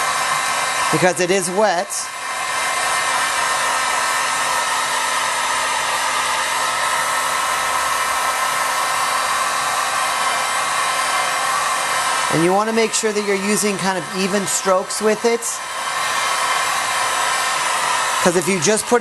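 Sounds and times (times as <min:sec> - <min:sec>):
heat gun blowing hot air: 0:00.0 - 0:19.0.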